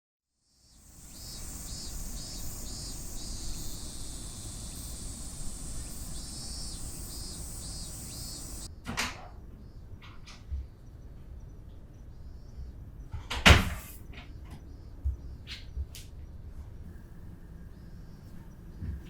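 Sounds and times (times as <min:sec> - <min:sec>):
insects buzzing and chirping: 0:00.4 - 0:08.8, 0:09.6 - 0:19.0.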